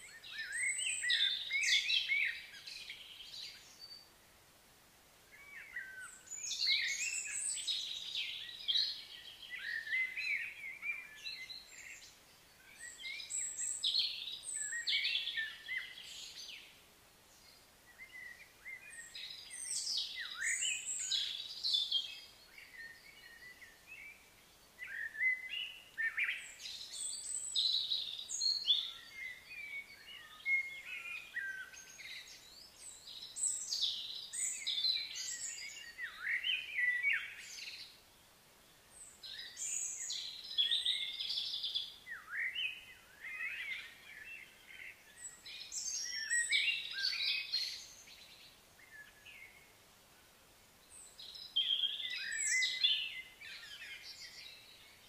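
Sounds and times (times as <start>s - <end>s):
birds chirping and singing: 0.1s - 4.1s, 5.4s - 16.7s, 17.4s - 38.0s, 38.9s - 49.6s, 50.9s - 55.0s.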